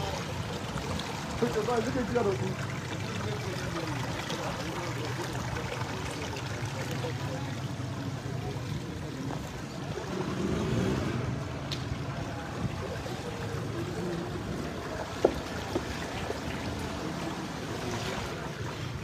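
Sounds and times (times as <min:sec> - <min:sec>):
water washing: 0:00.0 - 0:19.0.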